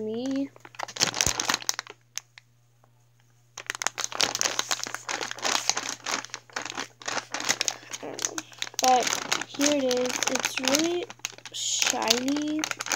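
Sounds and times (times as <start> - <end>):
plastic packaging crinkling: 0.0 - 2.4, 3.6 - 12.9.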